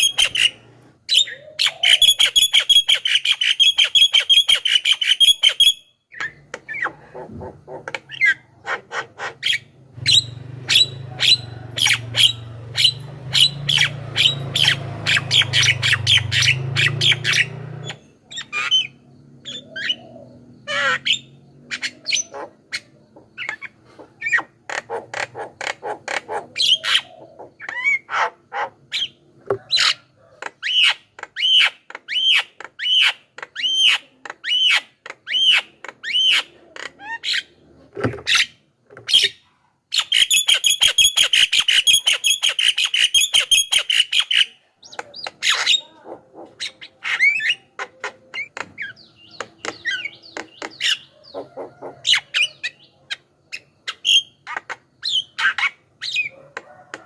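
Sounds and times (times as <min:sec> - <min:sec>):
bird chirping and squawking: 0:00.0 - 0:57.0
rapid bird chattering: 0:00.0 - 0:57.0.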